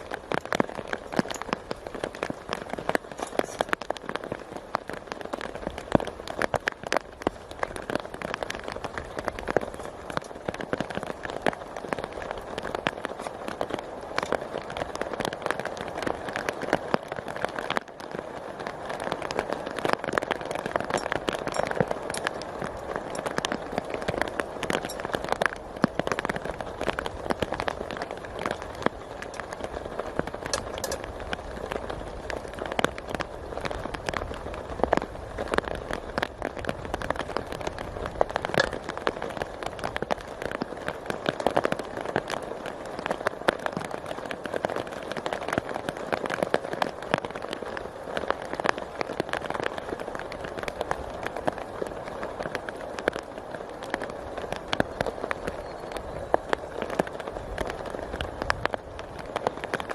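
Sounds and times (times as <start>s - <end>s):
rain pattering on a tarp: 0.0s - 59.9s.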